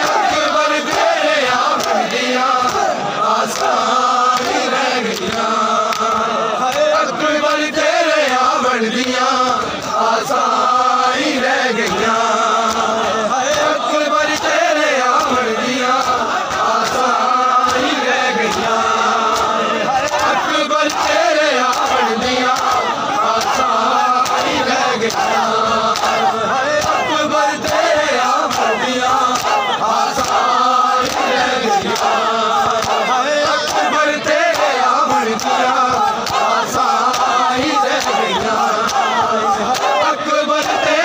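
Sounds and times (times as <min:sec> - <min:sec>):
hands slapping bare chests: 0:00.0 - 0:09.2, 0:11.1 - 0:41.0
men chanting a lament: 0:00.0 - 0:41.0.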